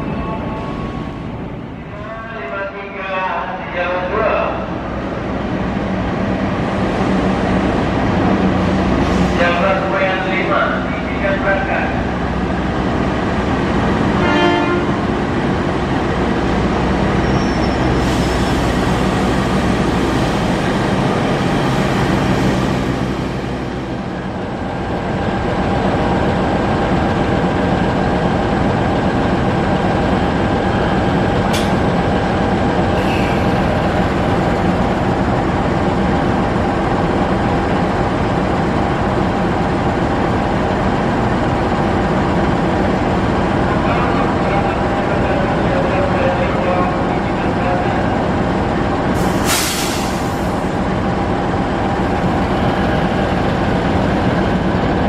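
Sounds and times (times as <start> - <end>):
diesel engine drone: 0.0 - 55.0
wheels rumbling on rail: 0.0 - 55.0.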